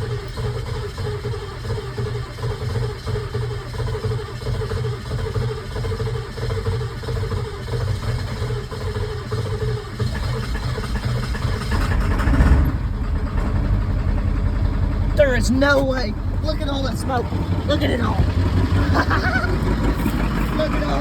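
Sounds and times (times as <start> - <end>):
diesel engine cranking: 0.0 - 21.0
diesel engine running: 0.0 - 21.0.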